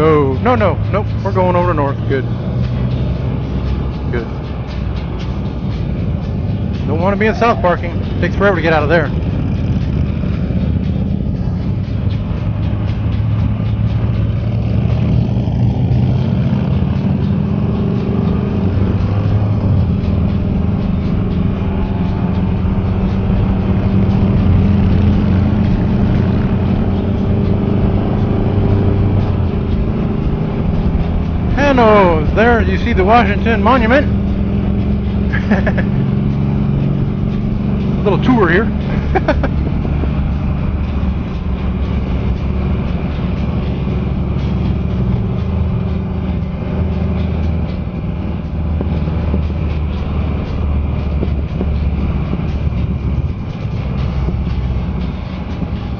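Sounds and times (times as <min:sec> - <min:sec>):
motorcycle engine humming: 0:00.0 - 0:55.9.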